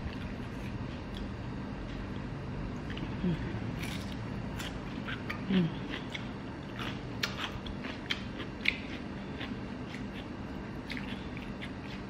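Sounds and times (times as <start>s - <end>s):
faint low hum: 0.0s - 12.0s
person chewing crunchy food: 0.0s - 12.0s.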